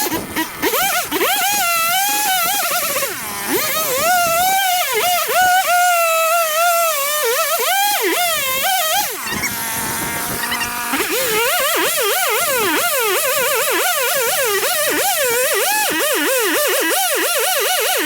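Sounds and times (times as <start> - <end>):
chainsaw revving while cutting: 0.0 - 18.0.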